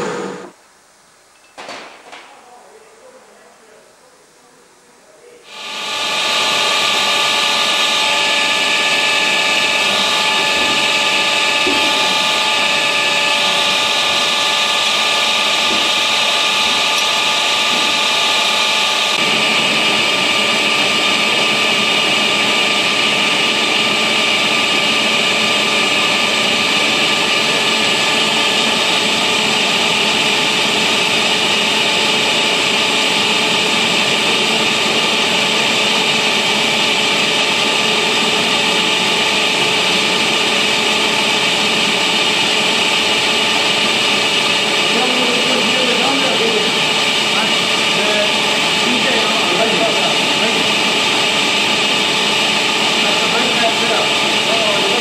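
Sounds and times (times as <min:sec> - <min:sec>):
machine tools motor and gear whine: 0:00.0 - 0:00.6, 0:05.5 - 0:55.0
boring mill turning steel ring: 0:05.5 - 0:55.0.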